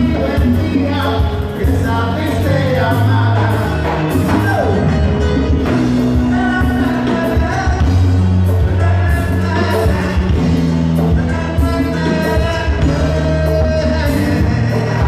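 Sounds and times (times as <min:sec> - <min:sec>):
drum kit: 0:00.0 - 0:15.0
electric guitars: 0:00.0 - 0:15.0
keyboard: 0:00.0 - 0:15.0
man singing: 0:00.0 - 0:15.0.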